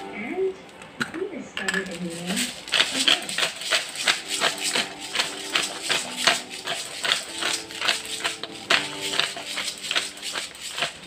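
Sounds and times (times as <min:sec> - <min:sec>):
spice shaker rattling: 0:01.6 - 0:11.0.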